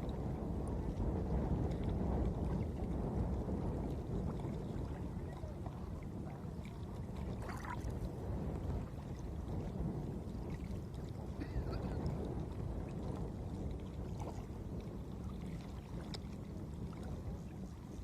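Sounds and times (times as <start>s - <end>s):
water lapping and sloshing: 0.0s - 18.0s.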